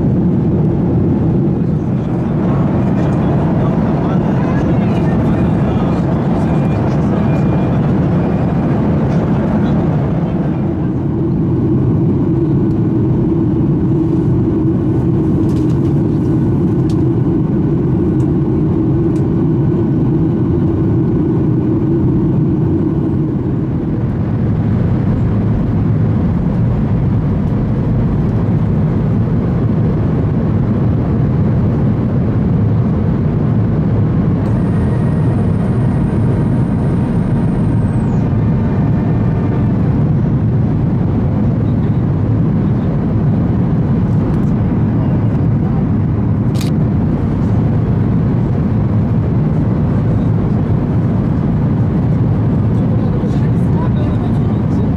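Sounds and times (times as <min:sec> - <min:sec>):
airplane cabin airflow rush: 0:00.0 - 0:54.9
jet engines droning hum: 0:00.0 - 0:54.9.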